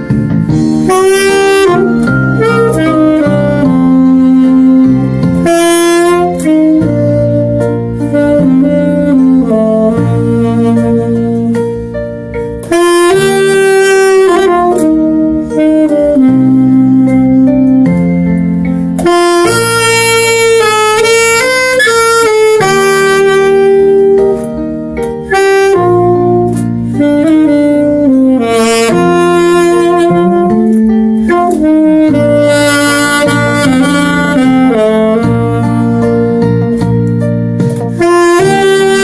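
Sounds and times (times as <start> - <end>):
accompaniment with bass: 0.0 - 39.0
alto saxophone melody: 0.0 - 39.0.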